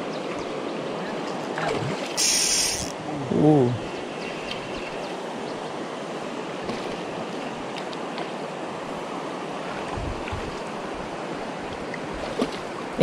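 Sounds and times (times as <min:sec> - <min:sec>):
river water rushing: 0:00.0 - 0:03.1, 0:03.8 - 0:13.0.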